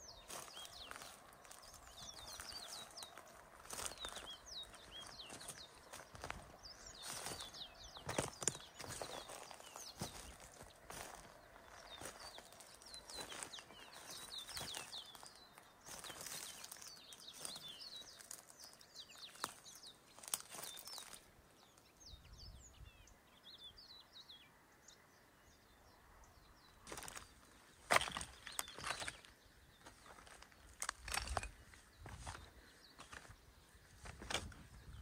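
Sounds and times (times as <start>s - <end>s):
small birds chirping: 0.0s - 35.0s
footsteps crunching: 0.1s - 21.3s, 26.8s - 35.0s.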